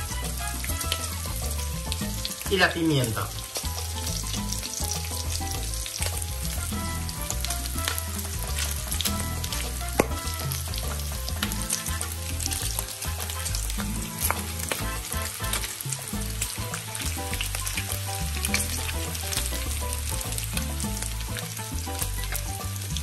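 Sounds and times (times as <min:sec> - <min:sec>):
bacon sizzling in a grill pan: 0:00.0 - 0:23.0.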